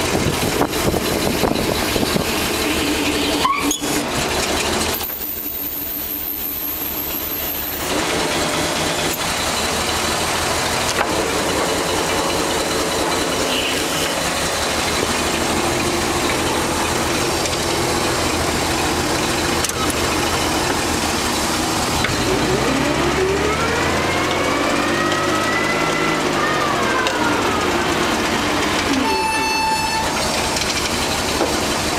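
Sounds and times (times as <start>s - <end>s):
forklift engine running: 0.0s - 31.9s.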